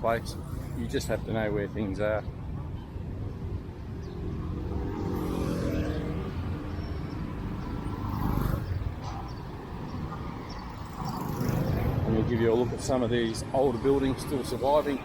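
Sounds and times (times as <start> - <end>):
road traffic rumble: 0.0 - 15.0
motorbike and car engines passing: 2.5 - 15.0.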